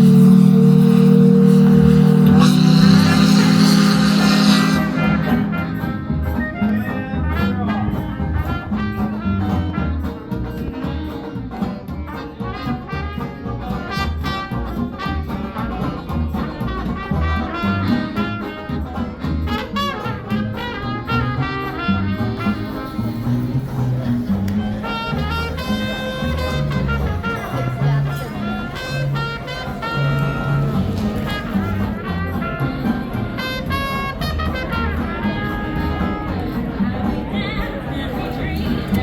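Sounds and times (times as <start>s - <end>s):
jazz with brass horns: 0.0s - 39.0s
steady bass beat: 0.0s - 39.0s.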